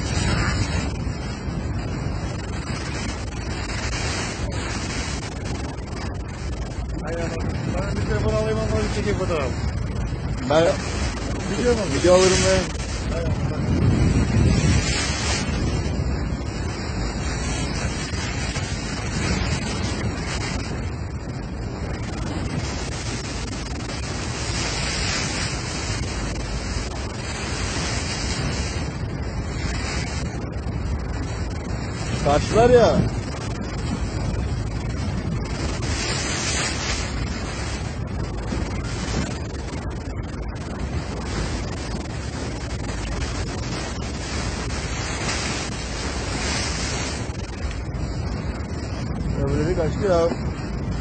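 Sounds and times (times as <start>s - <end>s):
steady low rumble: 0.0s - 51.0s
water splashing at boat bow: 0.0s - 51.0s
wind on microphone: 0.0s - 51.0s.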